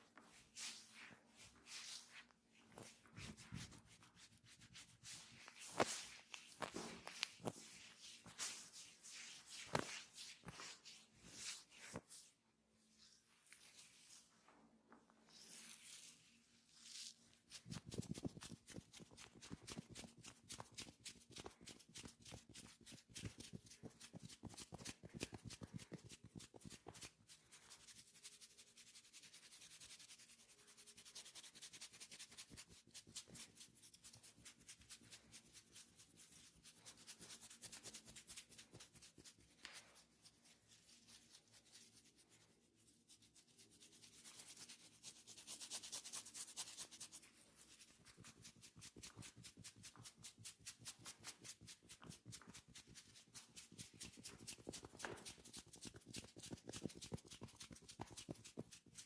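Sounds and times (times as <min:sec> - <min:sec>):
hands rubbing skin: 0:00.0 - 0:12.3, 0:13.0 - 0:59.0.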